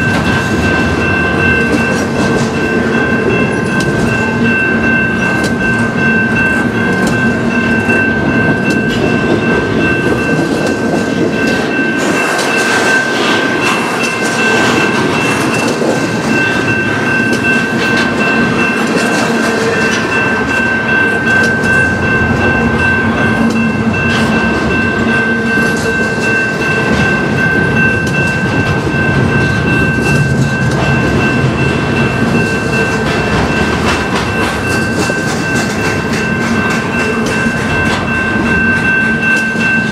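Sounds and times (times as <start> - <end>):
level crossing bell ringing: 0.0 - 39.9
train wheels clattering over rail joints: 0.0 - 39.9.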